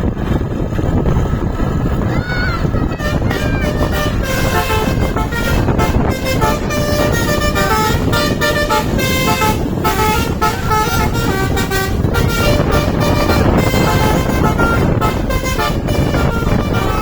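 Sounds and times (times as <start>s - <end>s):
road and engine rumble: 0.0s - 17.0s
bus horn playing melody: 2.8s - 17.0s.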